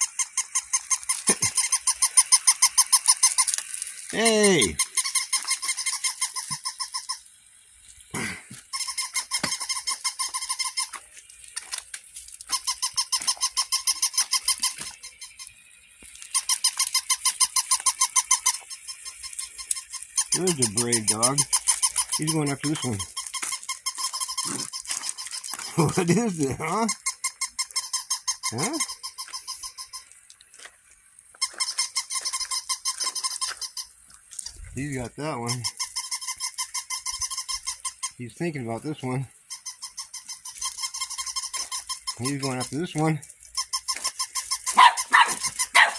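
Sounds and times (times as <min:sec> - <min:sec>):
toy puppy electronic yapping: 0:00.0 - 0:07.3, 0:08.6 - 0:11.0, 0:12.4 - 0:15.6, 0:16.3 - 0:30.1, 0:31.4 - 0:38.2, 0:39.5 - 0:45.9.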